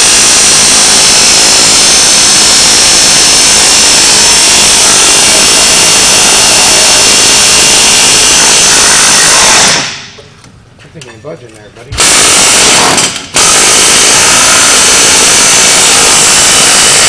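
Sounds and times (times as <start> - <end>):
pneumatic air tool running: 0.0 - 10.2, 12.0 - 17.0.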